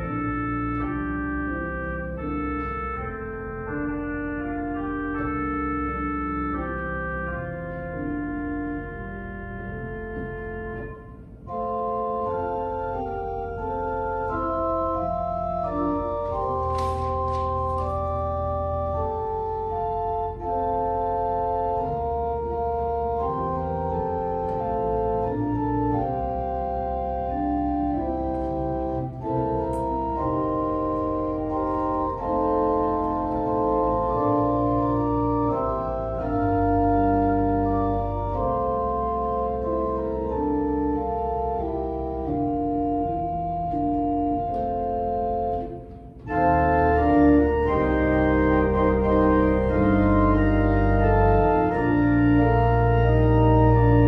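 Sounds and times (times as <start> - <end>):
church organ playing held chords: 0.0 - 54.0.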